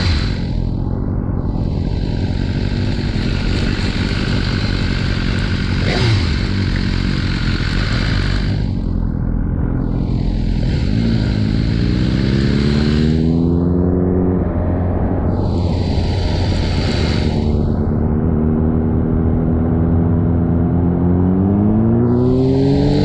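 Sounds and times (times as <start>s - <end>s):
motorcycle engine: 0.0s - 23.0s
wind and road noise: 0.0s - 23.0s.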